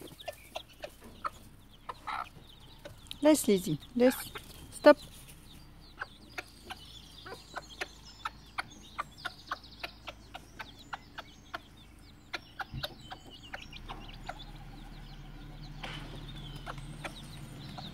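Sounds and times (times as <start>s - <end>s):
chicks peeping: 0.0s - 17.9s
hen clucking: 0.0s - 17.9s.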